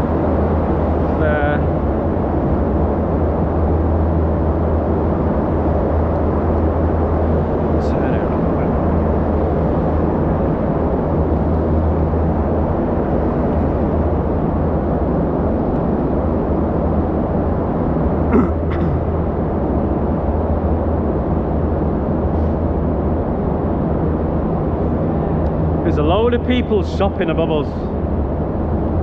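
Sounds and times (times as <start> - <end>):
generators rumbling drone: 0.0 - 29.0.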